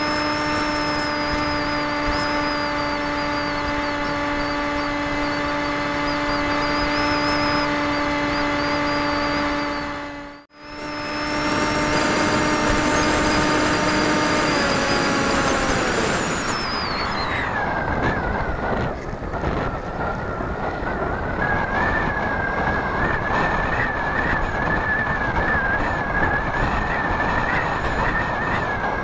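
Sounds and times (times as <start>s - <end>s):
model aircraft motor whine: 0.0s - 29.0s.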